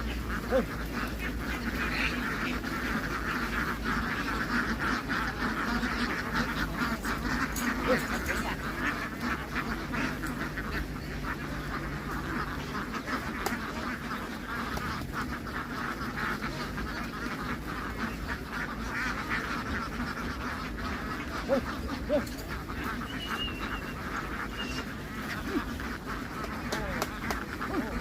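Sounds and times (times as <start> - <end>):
flock of ducks quacking: 0.0 - 28.0.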